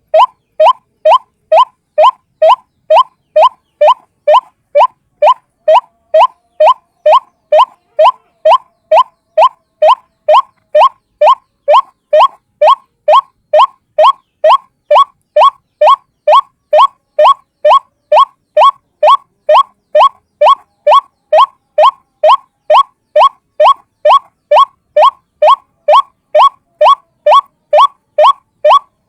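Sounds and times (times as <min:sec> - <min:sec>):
waterhen call: 0:00.0 - 0:28.9.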